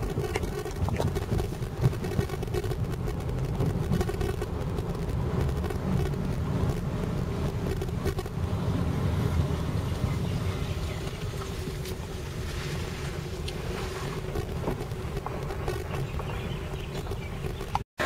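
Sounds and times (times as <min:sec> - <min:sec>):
car engine and tyre rumble: 0:00.0 - 0:17.9.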